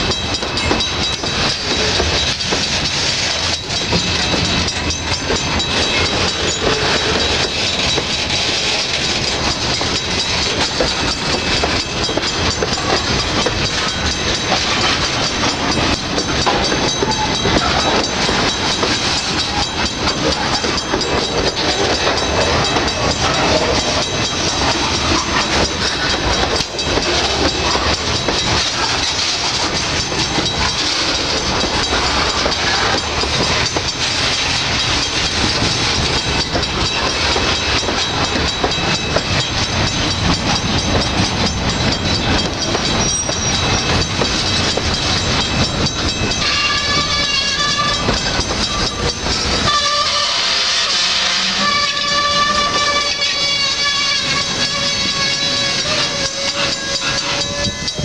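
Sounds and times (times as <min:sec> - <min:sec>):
wheels clacking over rails: 0:00.0 - 0:58.0.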